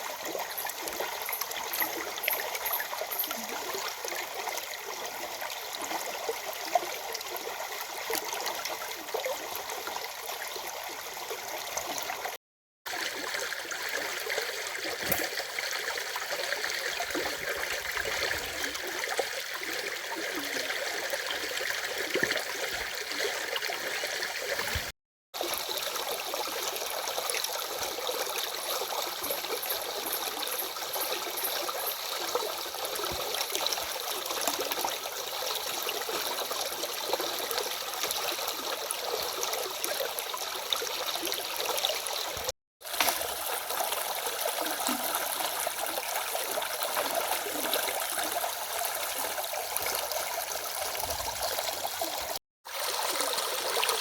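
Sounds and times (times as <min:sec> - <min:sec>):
stream water running over cascade: 0:00.0 - 0:54.0.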